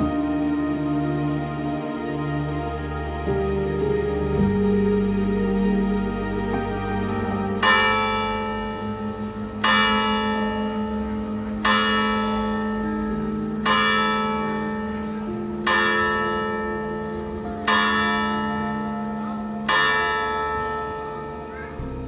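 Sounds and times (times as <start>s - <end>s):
church bell tolling: 0.0s - 22.0s.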